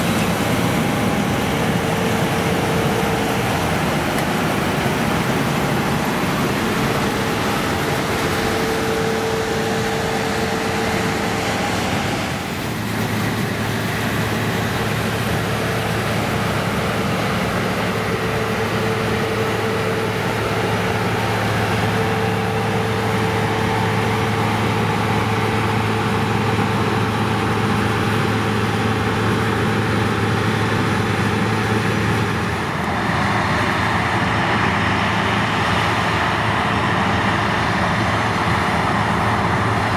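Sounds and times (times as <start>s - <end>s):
combine harvester engine drone: 0.0s - 39.9s
high whine: 0.0s - 39.9s
threshing rush: 0.0s - 39.9s.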